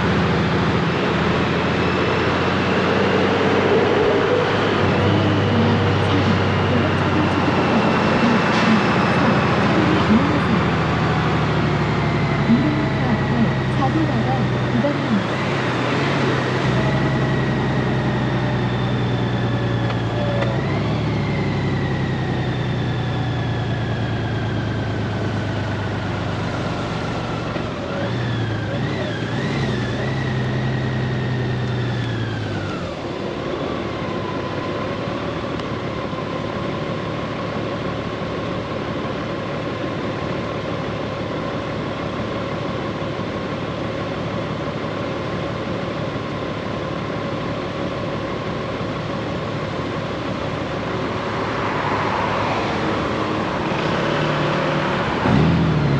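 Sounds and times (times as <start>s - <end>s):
motorcycle engine whine: 0.0s - 55.9s.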